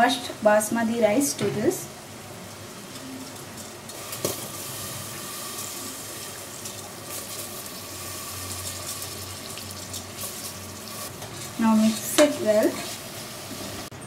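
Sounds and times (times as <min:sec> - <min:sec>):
masala sizzling in a cooker: 0:00.0 - 0:14.0.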